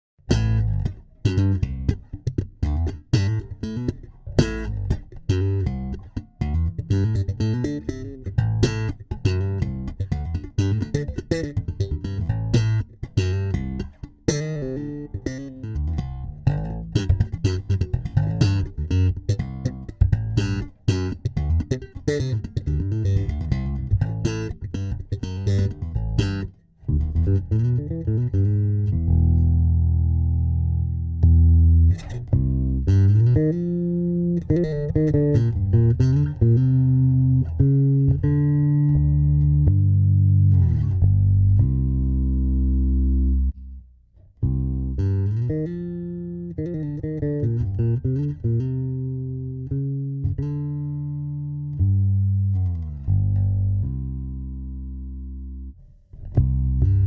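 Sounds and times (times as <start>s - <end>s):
electric bass guitar: 0.2s - 57.0s.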